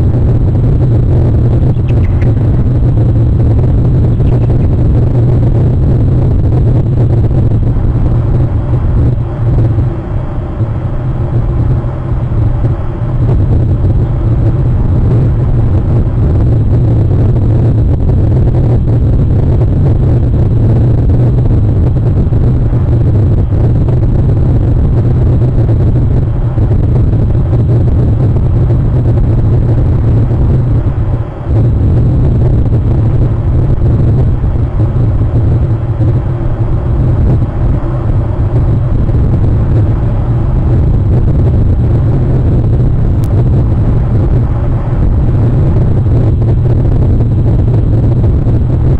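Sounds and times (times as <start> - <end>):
loud low rumble: 0.0 - 48.9.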